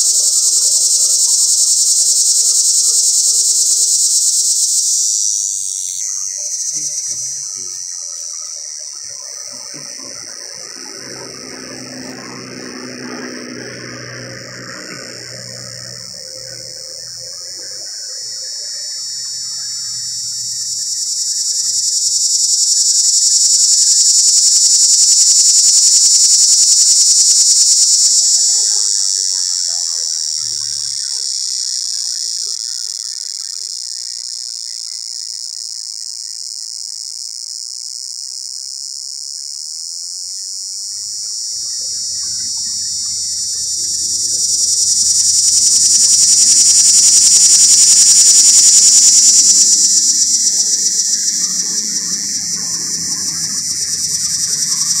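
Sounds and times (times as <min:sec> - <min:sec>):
cicada buzzing: 0:00.0 - 0:55.0.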